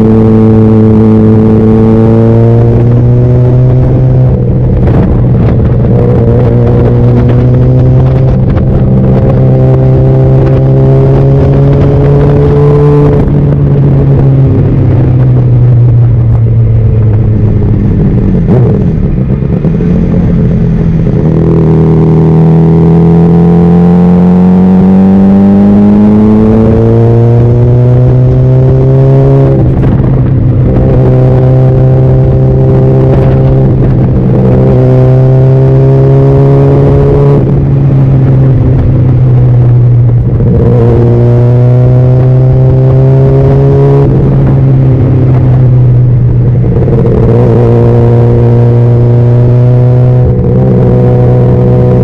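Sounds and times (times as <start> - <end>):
motorcycle engine revving: 0.0 - 52.0
wind noise: 0.0 - 52.0.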